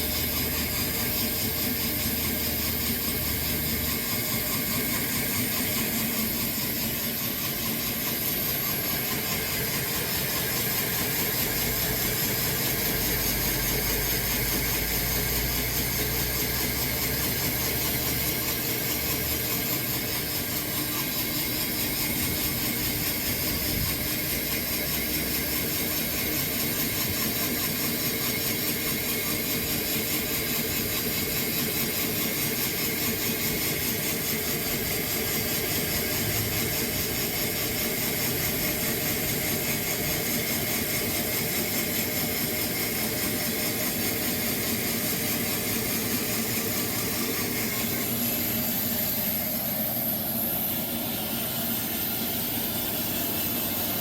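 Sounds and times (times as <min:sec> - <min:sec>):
sawmill cutting log: 0:00.0 - 0:54.0.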